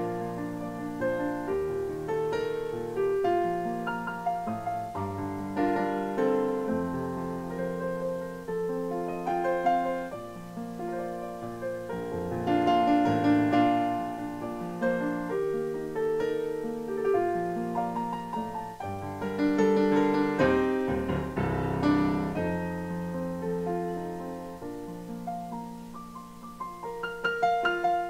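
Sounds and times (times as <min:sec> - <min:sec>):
solo piano music: 0:00.0 - 0:28.0.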